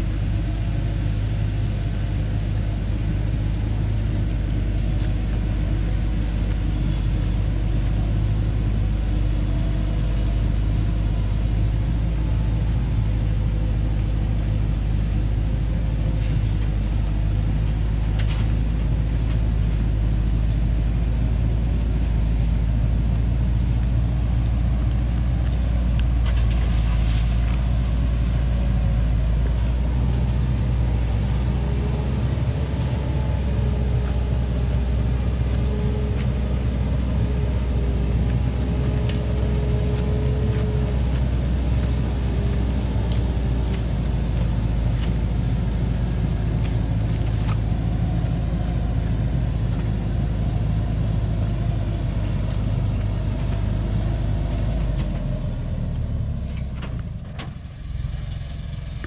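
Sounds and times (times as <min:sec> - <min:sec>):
truck diesel engine under load: 0:00.0 - 0:59.0.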